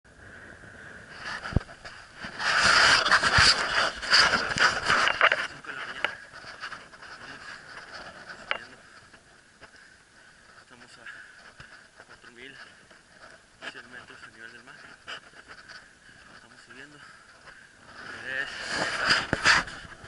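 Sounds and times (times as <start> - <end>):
rustling against microphone: 1.0 - 20.0.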